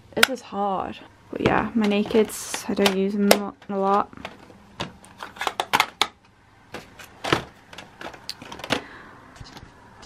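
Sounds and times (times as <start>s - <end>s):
palettes clicking and knocking: 1.3s - 9.7s.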